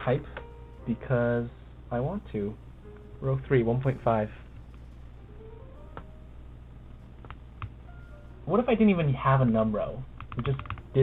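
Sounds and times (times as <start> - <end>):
faint tones: 0.0 - 11.0
low electrical hum: 0.0 - 11.0.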